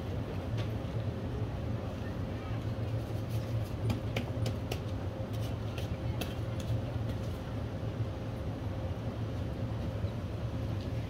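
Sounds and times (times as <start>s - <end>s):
bus engine hum: 0.0s - 11.0s.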